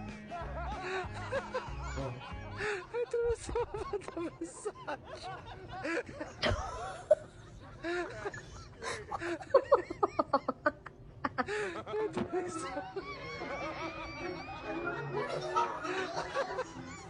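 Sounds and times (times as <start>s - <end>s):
people laughing and snickering: 0.0s - 17.0s.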